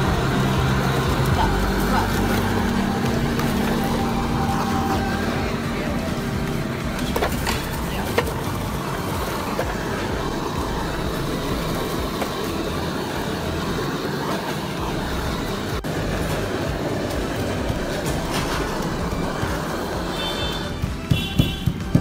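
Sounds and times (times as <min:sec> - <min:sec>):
blowtorch flame burning: 0:00.0 - 0:22.0.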